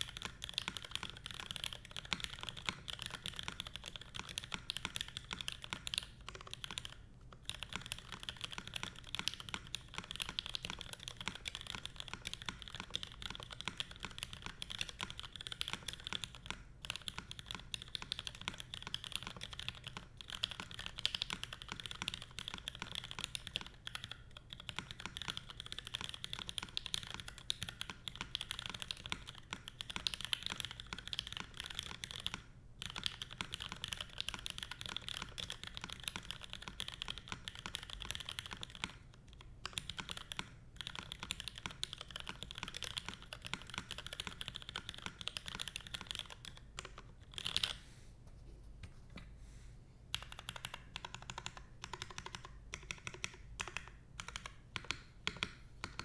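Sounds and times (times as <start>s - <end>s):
typing on mechanical keyboard: 0.0s - 47.8s, 50.1s - 56.0s.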